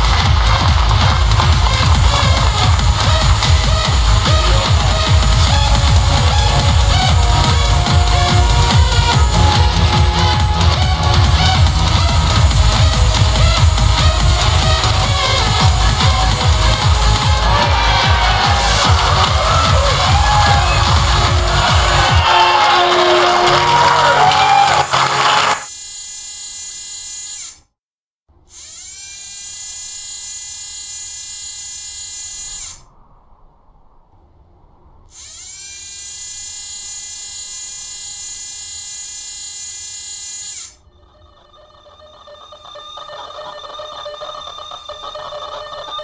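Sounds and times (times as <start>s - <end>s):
high electric motor whine: 0.0s - 27.6s, 28.5s - 32.9s, 35.2s - 46.0s.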